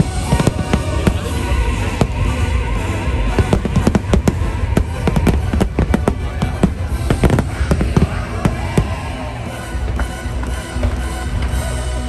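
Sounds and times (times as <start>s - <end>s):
fireworks bangs: 0.0s - 11.6s
loud music: 0.0s - 12.0s.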